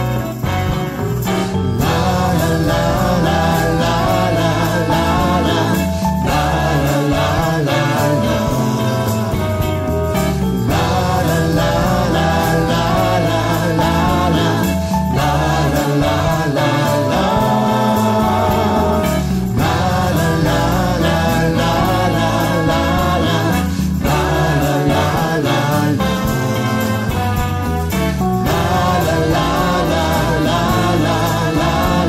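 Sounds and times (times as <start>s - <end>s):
instrumental gospel music: 0.0s - 32.0s.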